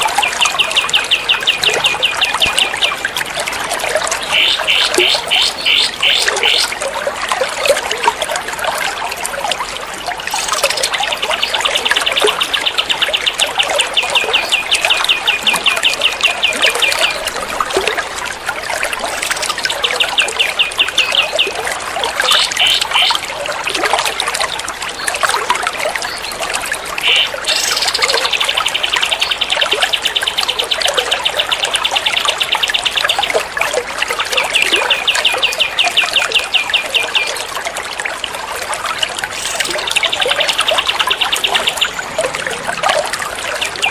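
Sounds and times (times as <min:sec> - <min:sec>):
trickling water: 0:00.0 - 0:43.9.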